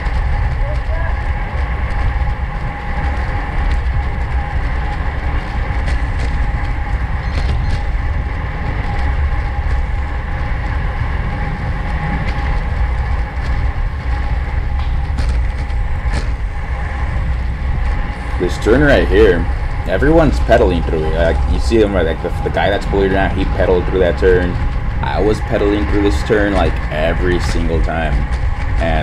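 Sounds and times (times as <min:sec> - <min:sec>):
bicycle rolling noise: 0:00.0 - 0:29.0
heavy low rumble: 0:00.0 - 0:29.0
wind rush: 0:00.0 - 0:29.0.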